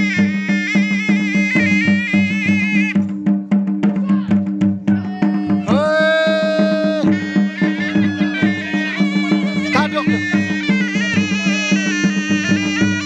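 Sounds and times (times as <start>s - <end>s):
folk dance melody: 0.0s - 13.0s
steady drumbeat: 0.0s - 13.0s.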